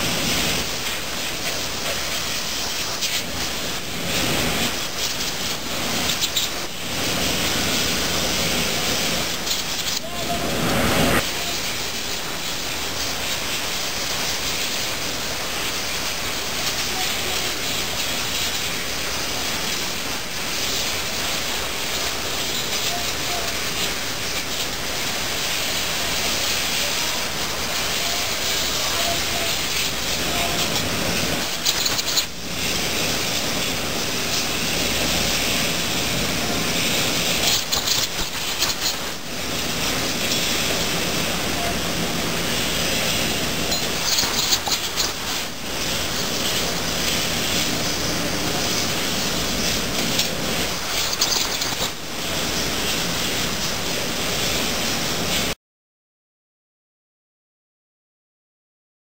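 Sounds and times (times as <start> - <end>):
surface grinder hissing: 0.0 - 55.6.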